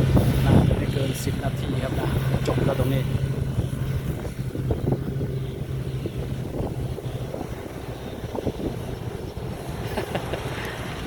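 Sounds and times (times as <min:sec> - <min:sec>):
combine harvester engine hum: 0:00.0 - 0:11.0
low rumble: 0:00.0 - 0:11.0.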